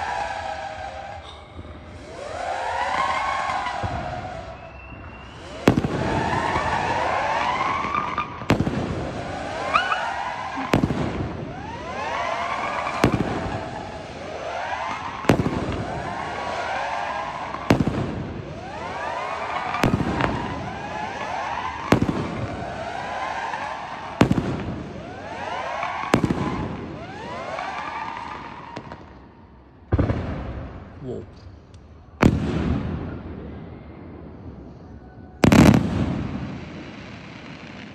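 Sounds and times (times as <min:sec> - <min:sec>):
firework bangs: 0:00.0 - 0:37.9
rising wavering firework whistles: 0:00.0 - 0:37.9.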